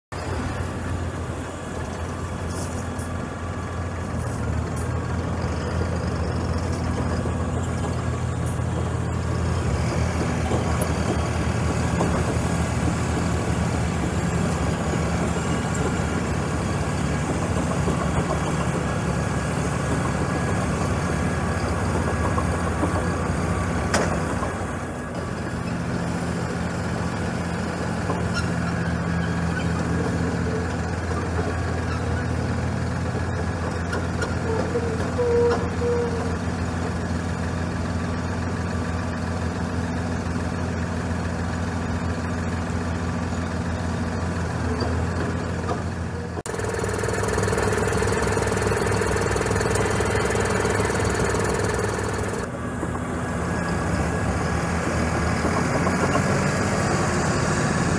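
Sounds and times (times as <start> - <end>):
tractor diesel engine running: 0.1 - 57.9.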